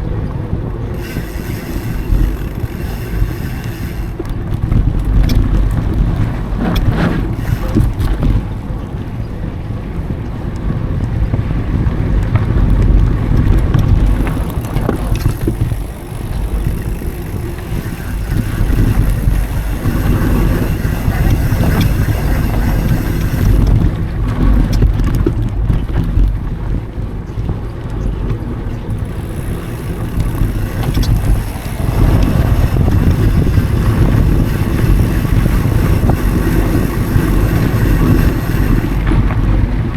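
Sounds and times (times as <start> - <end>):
tyres rumbling over dirt trail: 0.0 - 39.9
wind buffeting microphone: 0.0 - 39.9
bike clicks and rattles: 0.2 - 9.6, 12.1 - 39.9.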